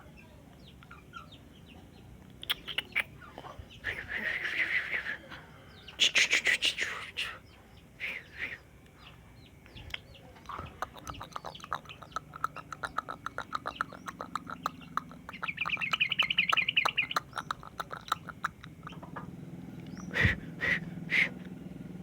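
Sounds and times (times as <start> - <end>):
bird chattering and trilling: 0.1 - 21.6.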